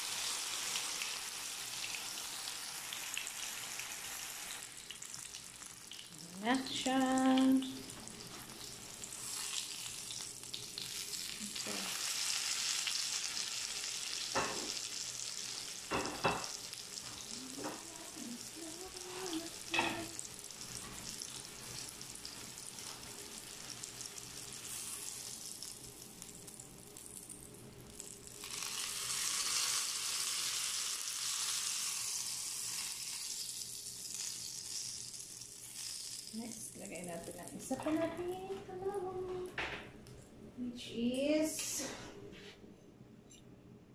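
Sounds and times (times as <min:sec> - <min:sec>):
omelette sizzling in oil: 0:00.0 - 0:37.8.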